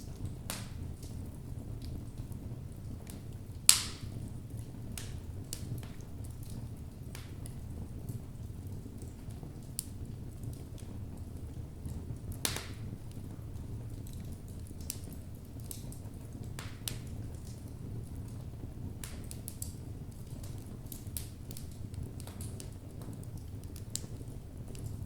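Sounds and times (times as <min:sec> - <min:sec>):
logs crackling and popping: 0:00.0 - 0:25.0
low rush of flames: 0:00.0 - 0:25.0.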